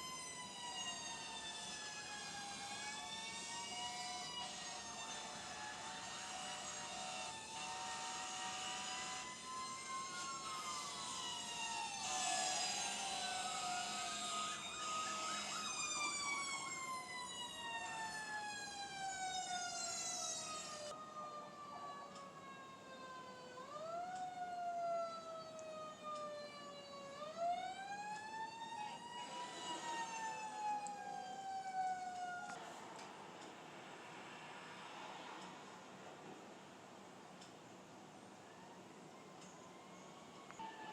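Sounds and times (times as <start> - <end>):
fire truck sirens wailing: 0.0 - 36.5, 38.2 - 40.9.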